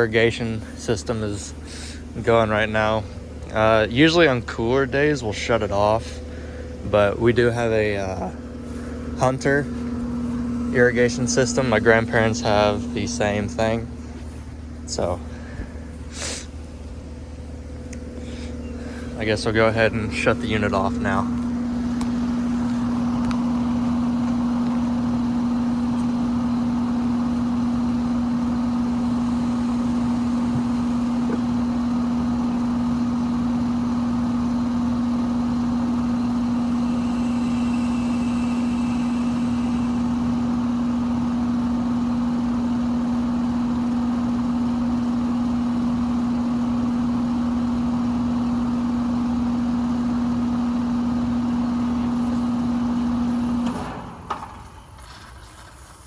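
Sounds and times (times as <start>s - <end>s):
air conditioner unit humming: 0.0s - 45.0s.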